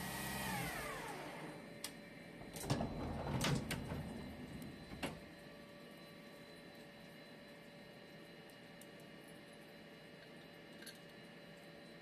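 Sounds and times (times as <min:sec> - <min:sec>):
faint machine hum: 0:00.0 - 0:12.0.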